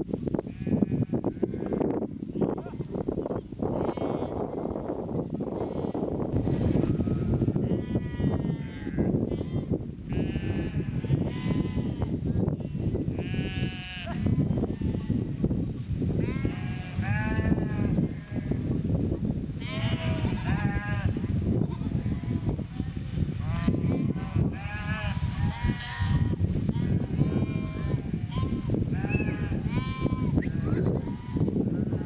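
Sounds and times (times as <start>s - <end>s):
sheep and goats bleating: 0.5s - 15.4s, 16.2s - 18.9s, 19.6s - 32.0s.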